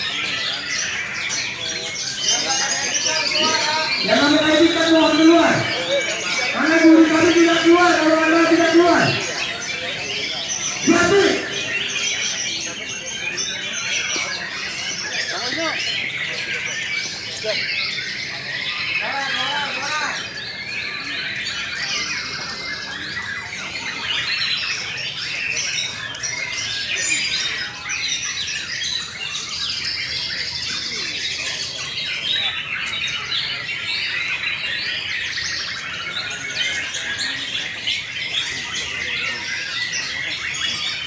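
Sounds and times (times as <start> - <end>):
many songbirds singing: 0.0 - 41.0.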